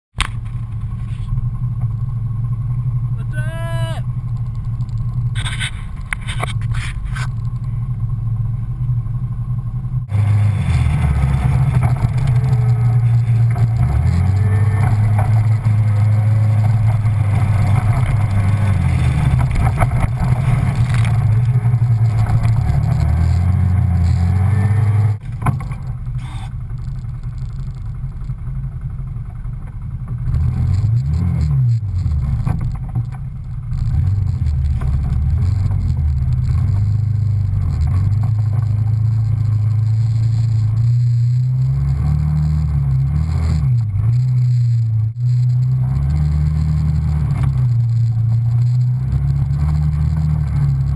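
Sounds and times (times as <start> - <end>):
off-road vehicle engine revving: 0.2 - 28.3, 30.0 - 50.9.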